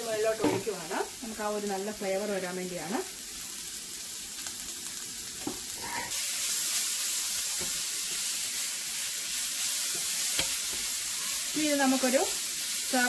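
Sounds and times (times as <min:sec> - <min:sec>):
stir-fry sizzling in a pan: 0:00.0 - 0:13.0.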